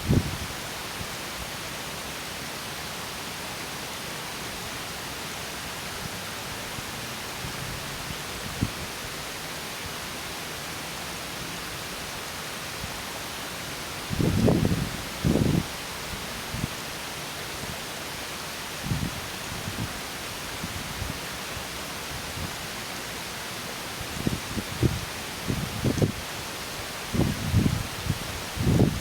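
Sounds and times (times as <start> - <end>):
stream rushing over small waterfall: 0.0 - 29.0.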